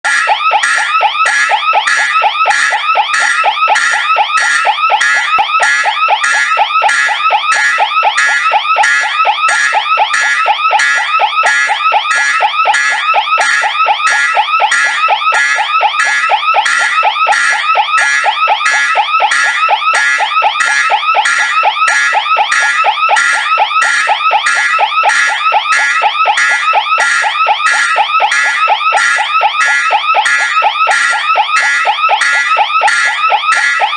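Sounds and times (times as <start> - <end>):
fire alarm warbling: 0.0 - 33.9.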